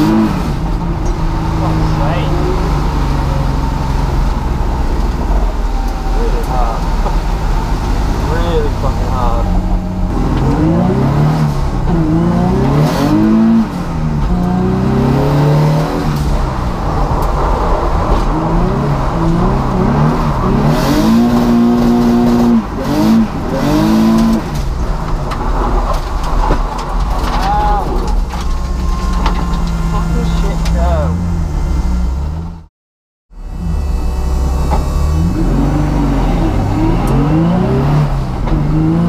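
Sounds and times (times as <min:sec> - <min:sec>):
car engine revving: 0:00.0 - 0:32.7, 0:33.4 - 0:39.0.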